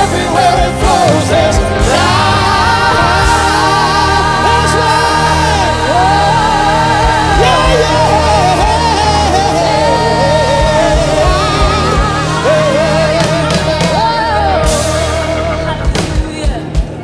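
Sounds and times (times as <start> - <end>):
band chords and bass: 0.0 - 17.0
person singing with vibrato: 0.0 - 17.0.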